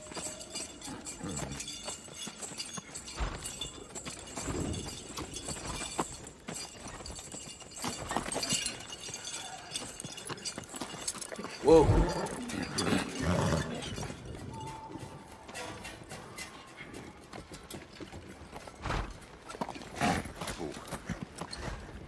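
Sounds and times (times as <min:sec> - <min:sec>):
horse hooves clip-clopping: 0:00.0 - 0:22.0.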